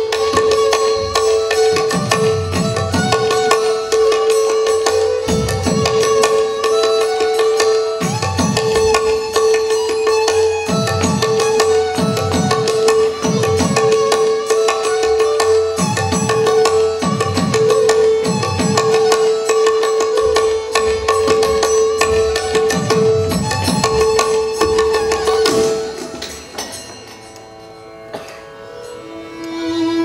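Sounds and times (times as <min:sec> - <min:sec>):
plucked strings: 0:00.0 - 0:30.0.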